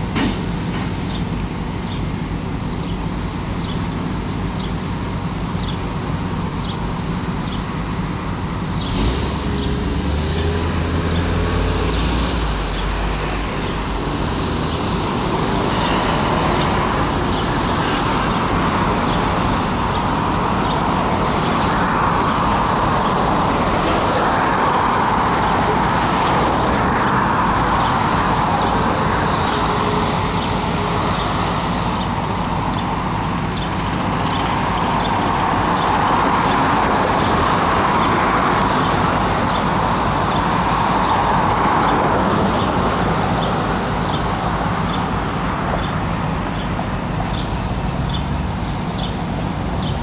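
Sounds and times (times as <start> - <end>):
cars driving past: 8.4 - 50.0.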